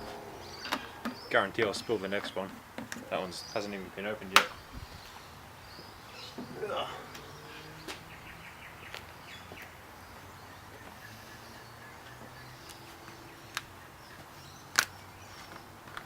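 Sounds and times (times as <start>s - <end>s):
low steady background noise: 0.0s - 16.0s.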